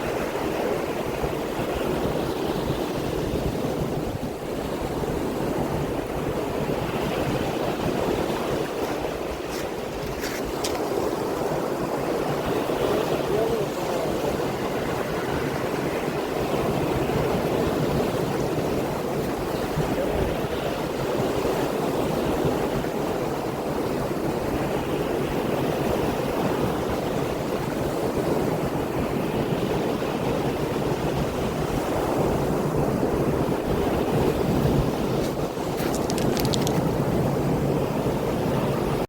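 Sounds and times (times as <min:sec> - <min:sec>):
surf washing onto shore: 0:00.0 - 0:39.0
wind on microphone: 0:00.0 - 0:39.0.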